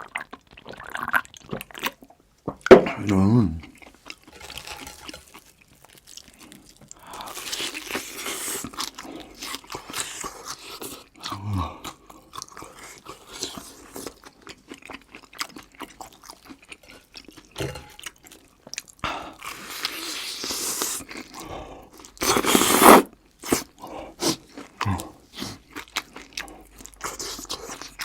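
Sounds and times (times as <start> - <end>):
chewing and crunching food: 0.0 - 28.0.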